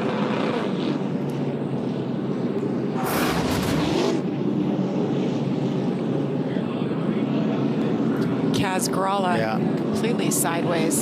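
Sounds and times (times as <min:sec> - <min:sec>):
race engines droning: 0:00.0 - 0:11.0.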